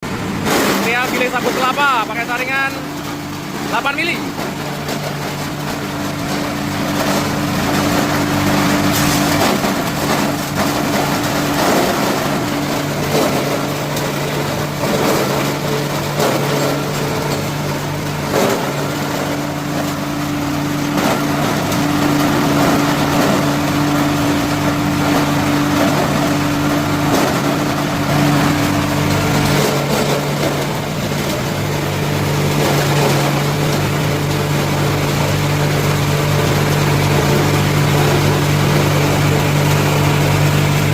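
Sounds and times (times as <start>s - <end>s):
grinding machine humming: 0.0s - 40.9s.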